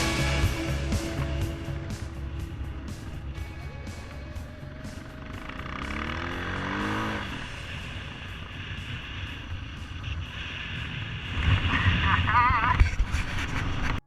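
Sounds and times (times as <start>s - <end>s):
motorcycle engine accelerating: 0.0s - 11.7s.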